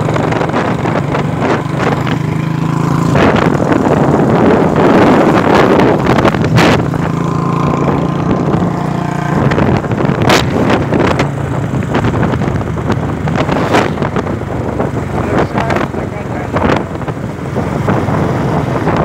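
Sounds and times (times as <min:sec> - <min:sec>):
motorcycle engine running: 0:00.0 - 0:19.0
wind rumbling on microphone: 0:00.0 - 0:19.0.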